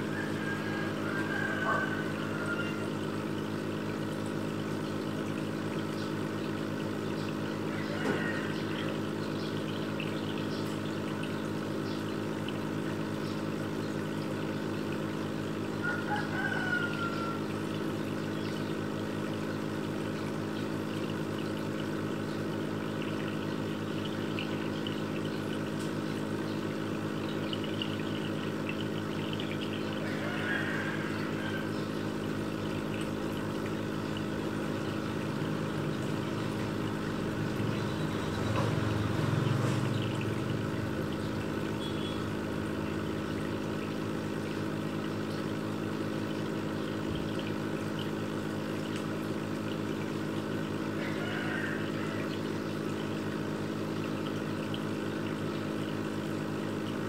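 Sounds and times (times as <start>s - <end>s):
aquarium filter pump humming: 0.0s - 57.0s
water trickling: 0.0s - 57.0s.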